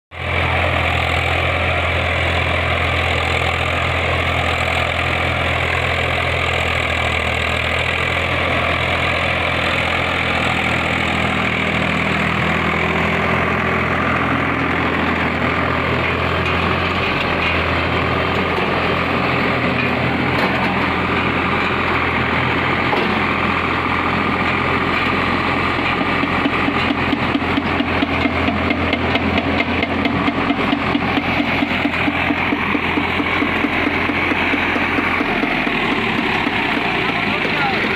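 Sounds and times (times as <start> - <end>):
tractor engine running under load: 0.1 - 37.9.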